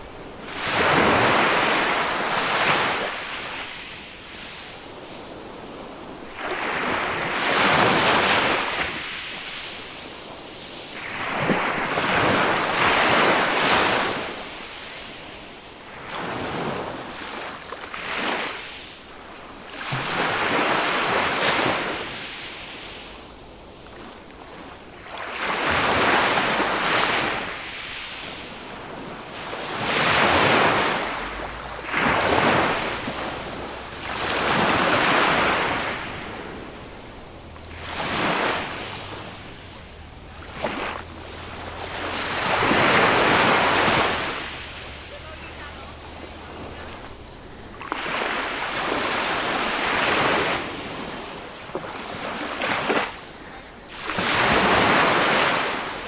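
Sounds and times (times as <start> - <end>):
small waves breaking on a beach: 0.0 - 56.0.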